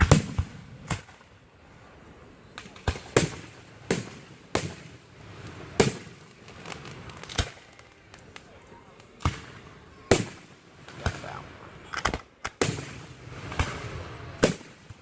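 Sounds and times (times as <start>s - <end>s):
fireworks bangs: 0.0s - 1.4s, 2.5s - 15.0s.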